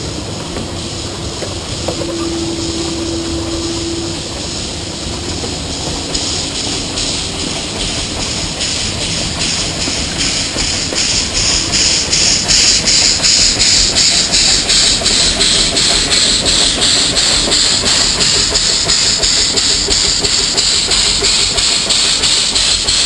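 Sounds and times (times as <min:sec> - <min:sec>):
loud steam hiss: 0:00.0 - 0:23.0
steam locomotive exhaust chuffing: 0:00.0 - 0:23.0.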